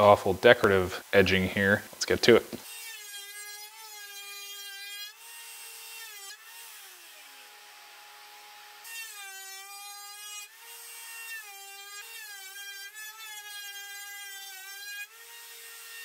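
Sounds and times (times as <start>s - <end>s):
router bit cutting wood: 2.0s - 16.0s.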